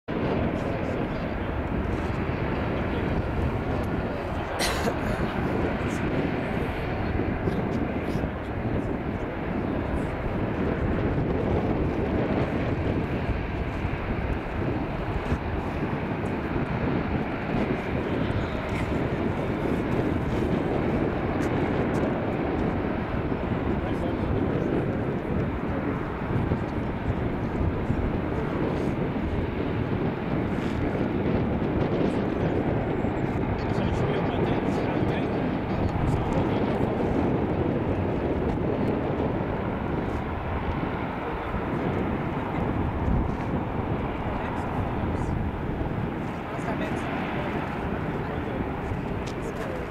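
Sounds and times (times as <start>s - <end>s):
distant turboprop engines rumbling: 0.1s - 49.9s.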